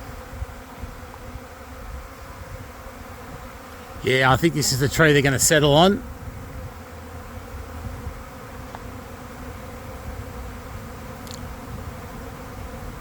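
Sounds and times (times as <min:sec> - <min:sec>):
honeybee swarm buzzing: 0:00.0 - 0:13.0.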